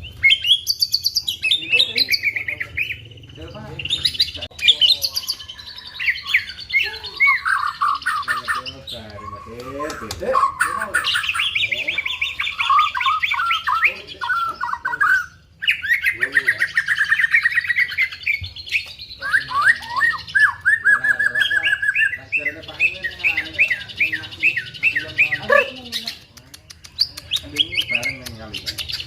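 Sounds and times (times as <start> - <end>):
bird singing quick chirps: 0.0 - 29.0.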